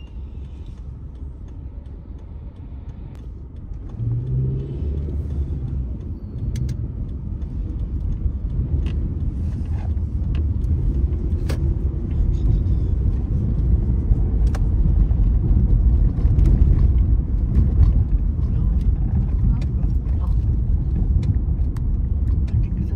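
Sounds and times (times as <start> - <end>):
car engine and tyre rumble: 0.0 - 22.9.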